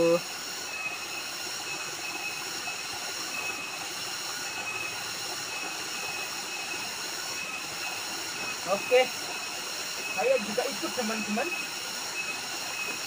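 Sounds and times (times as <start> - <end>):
high-pitched ringing tones: 0.0 - 13.0
waterfall rushing: 0.0 - 13.0.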